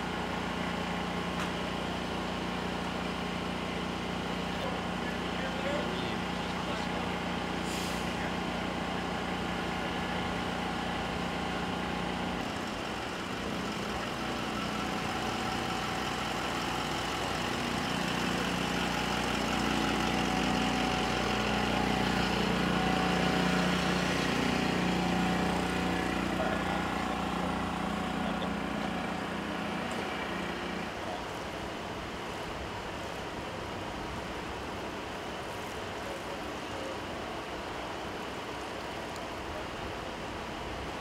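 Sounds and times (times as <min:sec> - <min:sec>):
large vehicle engine running: 0:00.0 - 0:41.0.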